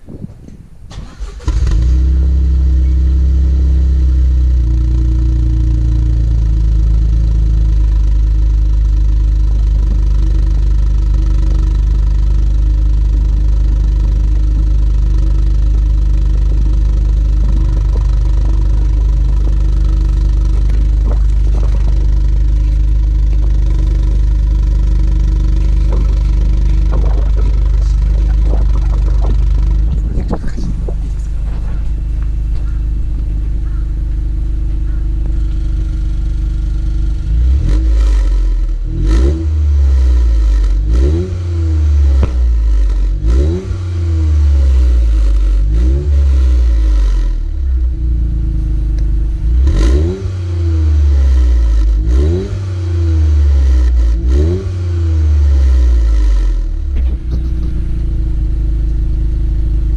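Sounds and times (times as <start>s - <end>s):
car engine idling: 0.0s - 59.9s
car engine starting: 0.0s - 59.9s.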